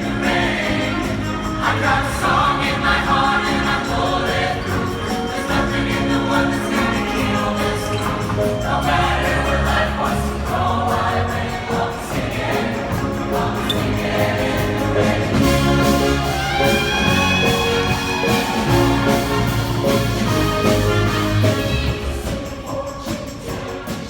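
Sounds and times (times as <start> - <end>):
instrumental backing: 0.0 - 22.7
choir singing: 0.0 - 24.0
percussion beat: 0.0 - 24.0.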